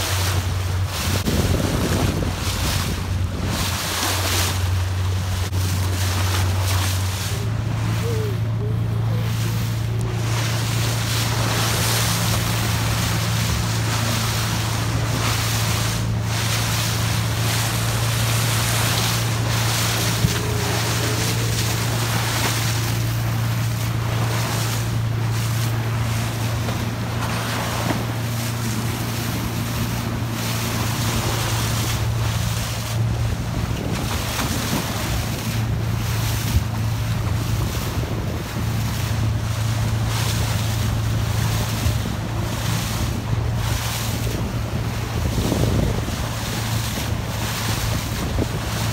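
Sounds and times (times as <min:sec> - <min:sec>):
boat engine humming: 0:00.0 - 0:48.9
water splashing along hull: 0:00.0 - 0:48.9
wind buffeting microphone: 0:00.0 - 0:48.9.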